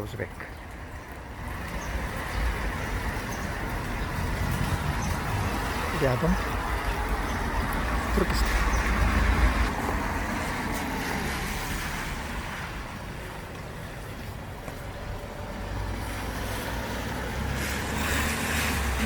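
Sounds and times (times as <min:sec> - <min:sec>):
road vehicles rumbling: 0:00.0 - 0:19.0.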